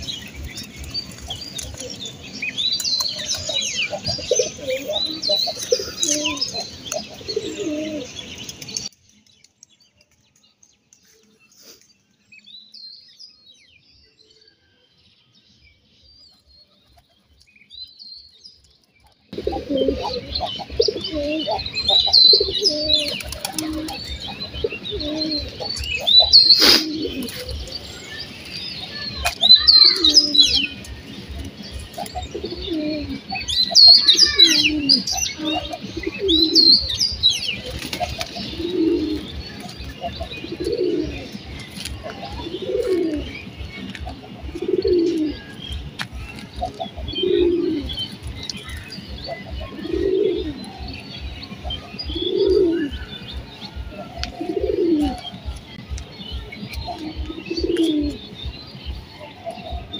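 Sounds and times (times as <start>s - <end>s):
pigeons cooing: 0.0s - 8.9s, 19.3s - 59.9s
birds chirping: 0.0s - 59.9s.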